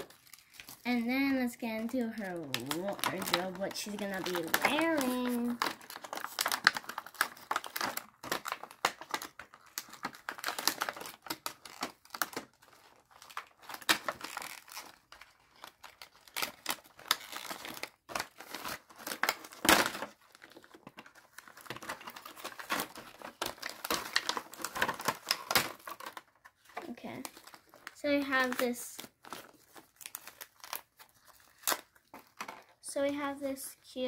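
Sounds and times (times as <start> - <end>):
plastic packaging crinkling: 0.0 - 33.6.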